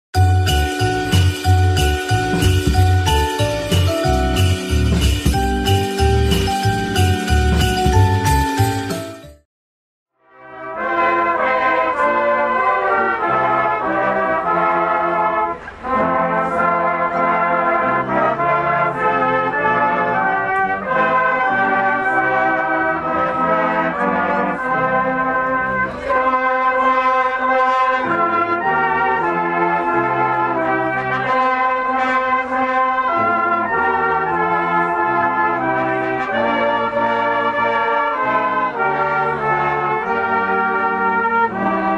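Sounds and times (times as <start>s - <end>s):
brass band playing: 0.2s - 9.3s, 10.3s - 41.9s.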